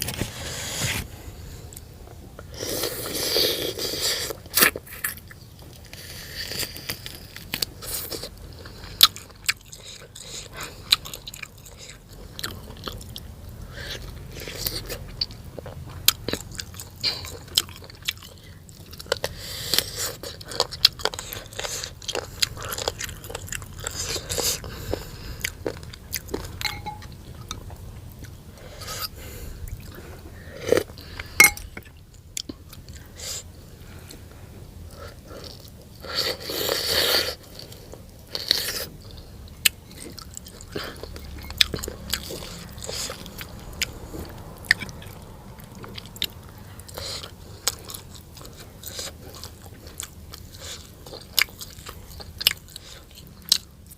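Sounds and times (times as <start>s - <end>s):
person chewing and crunching: 1.7s - 53.9s.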